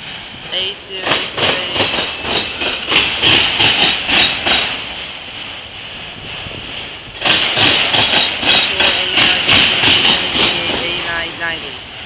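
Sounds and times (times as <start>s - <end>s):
train wheels clacking over track: 0.0s - 12.0s.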